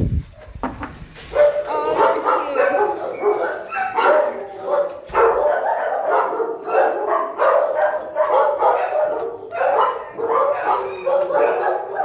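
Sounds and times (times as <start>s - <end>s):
big dogs barking: 1.3s - 12.0s.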